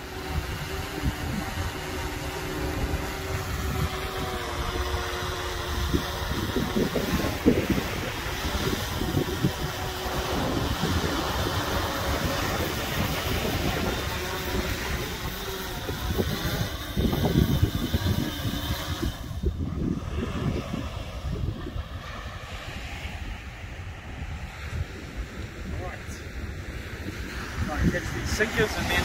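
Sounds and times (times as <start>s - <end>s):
drone rotors humming: 0.0s - 29.0s
wind rumbling on microphone: 0.0s - 29.0s.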